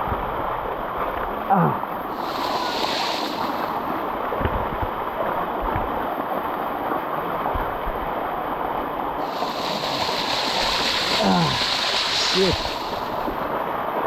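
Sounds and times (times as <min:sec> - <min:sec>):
waterfall rushing: 0:01.3 - 0:07.5, 0:08.2 - 0:14.0.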